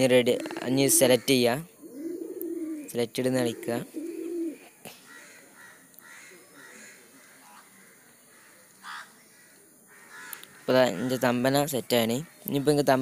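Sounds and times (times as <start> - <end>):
distant bird calls: 0.0 - 13.0.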